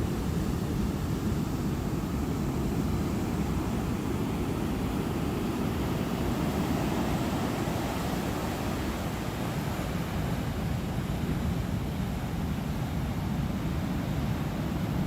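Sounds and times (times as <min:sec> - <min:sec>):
surf rumble: 0:00.0 - 0:15.0
wind: 0:00.0 - 0:15.0.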